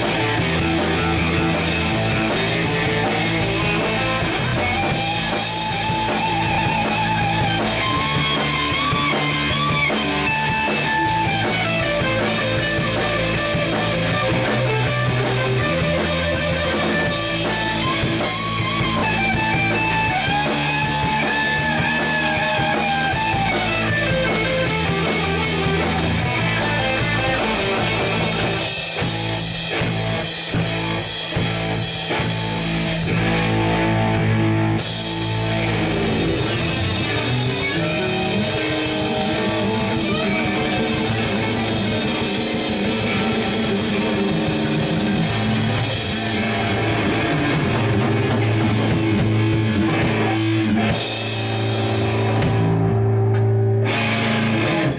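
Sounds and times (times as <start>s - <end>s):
drum kit: 0.0s - 54.9s
electric guitars: 0.0s - 54.9s.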